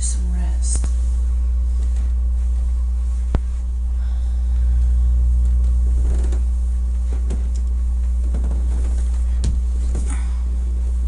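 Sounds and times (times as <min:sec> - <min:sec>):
bedding rustling: 0:00.0 - 0:11.0
loud low hum: 0:00.0 - 0:11.0.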